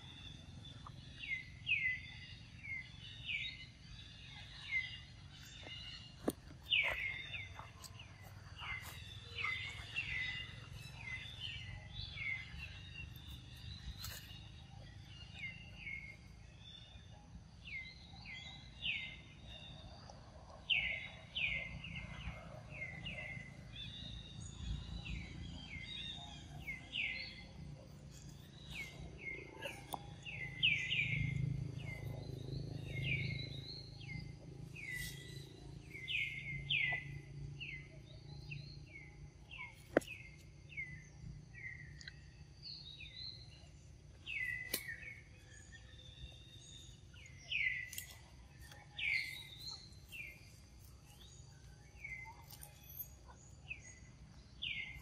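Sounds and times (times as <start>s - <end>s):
birds chirping: 0.0s - 55.0s
low outdoor rumble: 0.0s - 55.0s.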